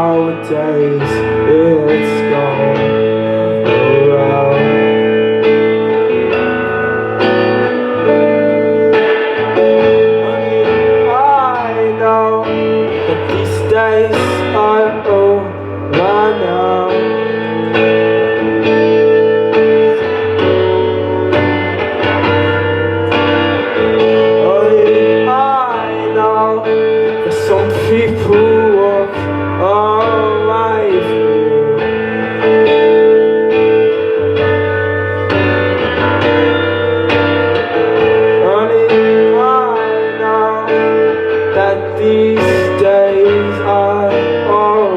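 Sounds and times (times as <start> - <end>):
guitar band music: 0.0 - 44.9.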